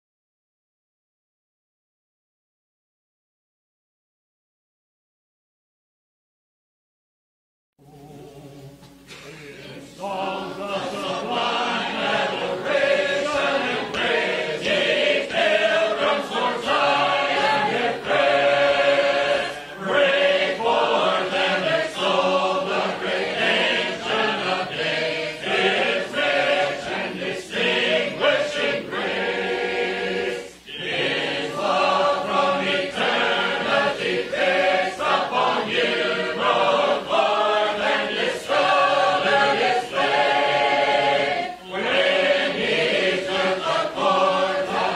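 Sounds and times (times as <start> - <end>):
choir singing a hymn: 8.0 - 44.9.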